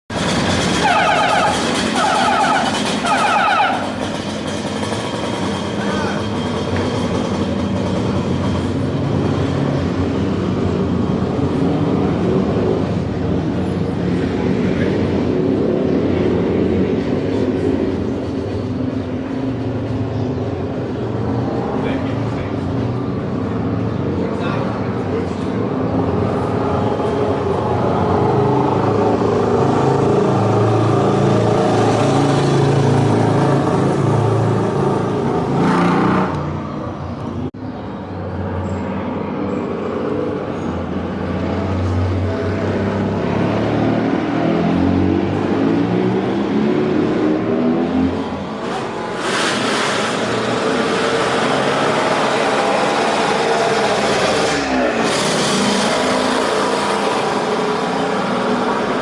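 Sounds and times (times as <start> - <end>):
motorcycle engine revving: 0.1 - 19.9, 25.6 - 36.6, 39.6 - 59.0.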